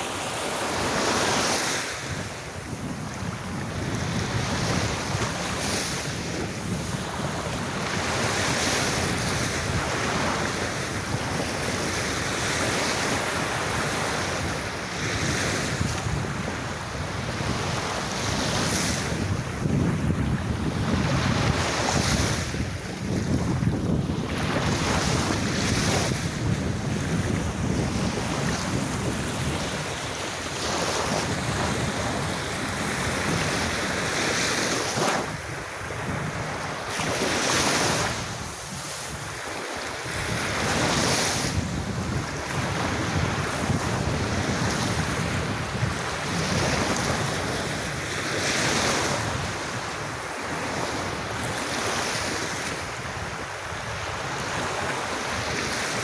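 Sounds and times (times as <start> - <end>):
sea waves washing onto beach: 0.0 - 56.0
wind rumble on microphone: 0.0 - 56.0.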